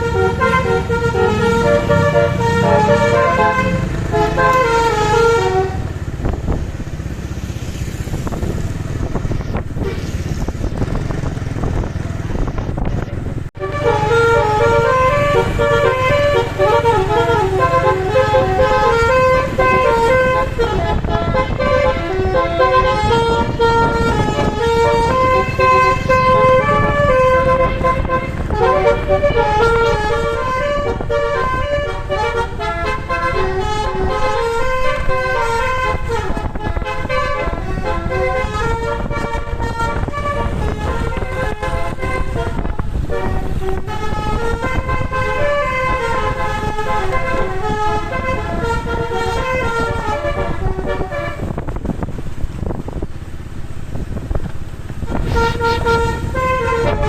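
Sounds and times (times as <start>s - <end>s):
bus multi-tone horn melody: 0.0s - 7.0s, 7.8s - 57.0s
vehicle road noise: 0.0s - 57.0s.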